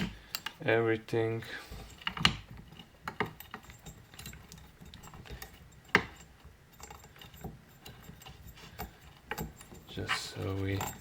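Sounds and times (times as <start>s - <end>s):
light metallic clicks and taps: 0.0s - 0.7s, 1.7s - 11.0s.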